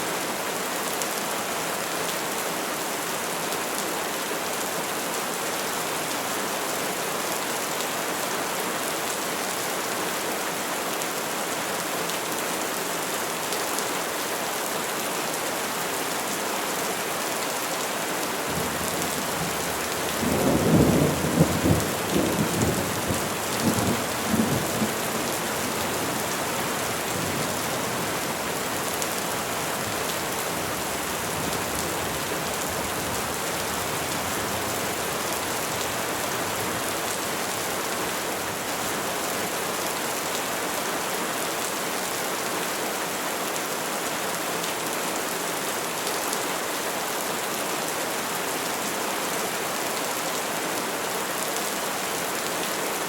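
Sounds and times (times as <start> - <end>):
rain falling on trees: 0.0 - 53.0.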